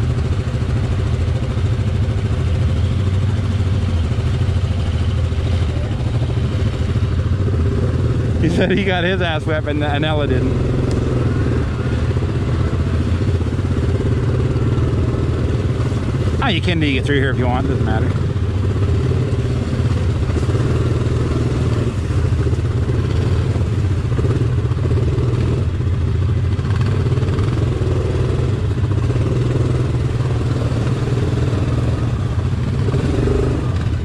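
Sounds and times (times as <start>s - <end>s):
quad bike engine running: 0.0s - 34.0s.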